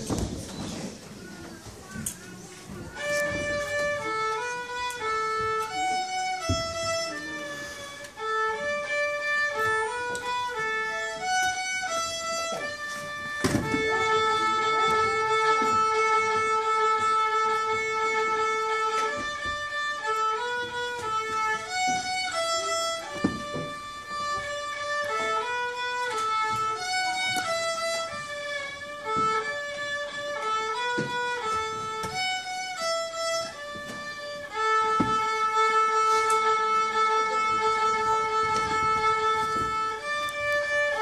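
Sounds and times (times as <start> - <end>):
solo fiddle melody: 1.2 - 41.0.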